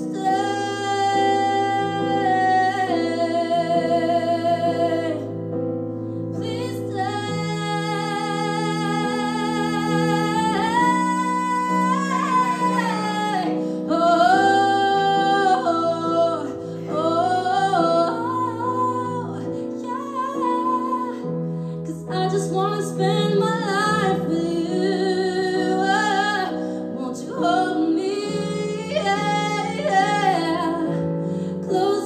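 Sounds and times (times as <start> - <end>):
woman singing: 0.0 - 5.4, 6.3 - 32.0.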